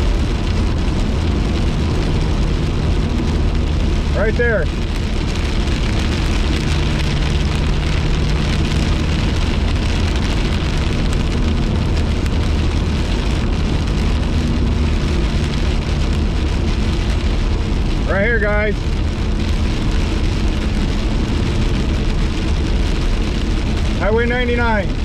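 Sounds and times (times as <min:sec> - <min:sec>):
rain pelting car windshield: 0:00.0 - 0:25.0
tyre and engine hum: 0:00.0 - 0:25.0.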